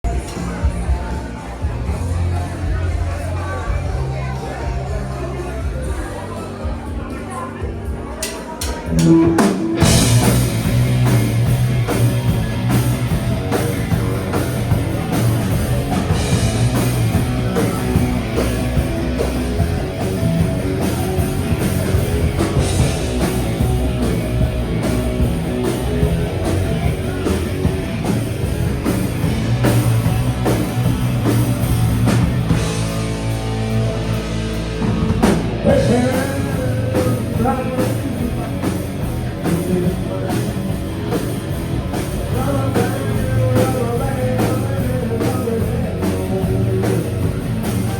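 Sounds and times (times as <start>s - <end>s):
drum kit: 0.0s - 47.9s
guitars: 0.0s - 47.9s
rock band playing live: 0.0s - 47.9s.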